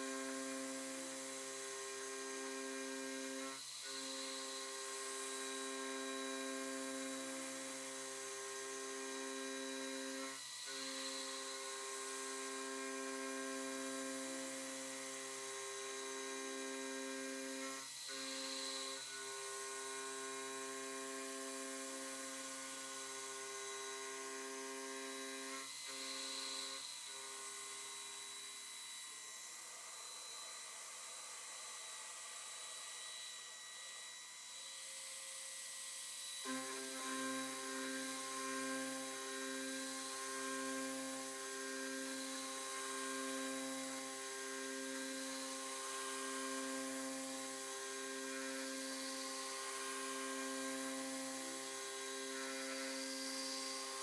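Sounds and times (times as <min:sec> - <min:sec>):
milling machine motor whine: 0:00.0 - 0:54.0.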